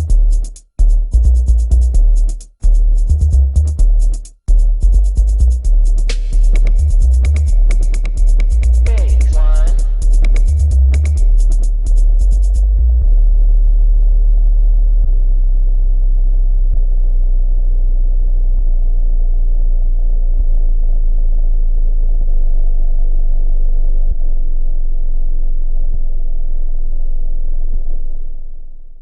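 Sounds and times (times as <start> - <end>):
deep sub-bass tone: 0.0 - 29.0.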